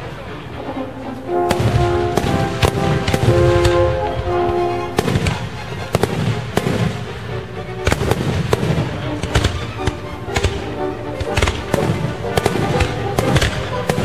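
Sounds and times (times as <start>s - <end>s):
music playing: 0.0s - 14.0s
fireworks bangs: 1.4s - 7.2s, 7.8s - 14.0s.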